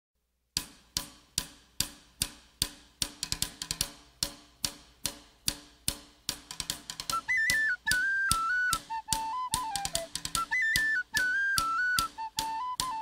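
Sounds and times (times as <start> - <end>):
steady drum beat: 0.6 - 13.0.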